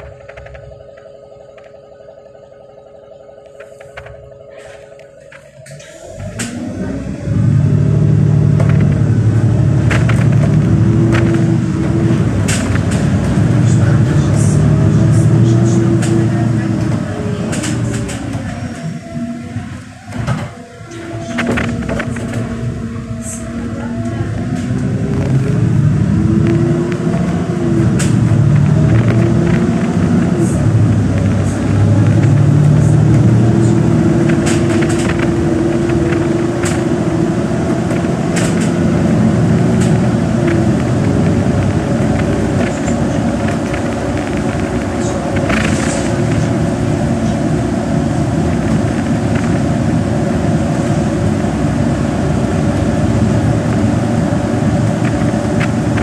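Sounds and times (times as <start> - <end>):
bus engine running: 0.0 - 56.0
tyres on wet road: 3.6 - 56.0.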